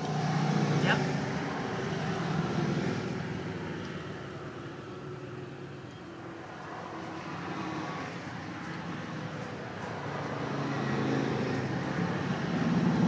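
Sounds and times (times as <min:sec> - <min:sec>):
motorcycles passing: 0:00.0 - 0:13.0.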